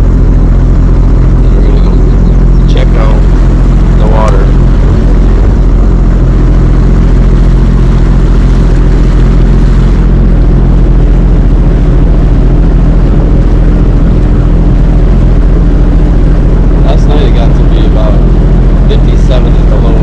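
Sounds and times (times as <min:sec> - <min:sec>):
jet ski engine running: 0:00.0 - 0:20.0
rushing noise: 0:00.0 - 0:20.0.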